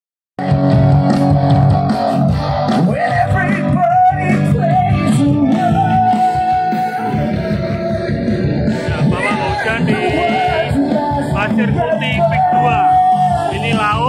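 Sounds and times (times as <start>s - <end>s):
bass guitar: 0.4s - 14.0s
electric guitars: 0.4s - 14.0s.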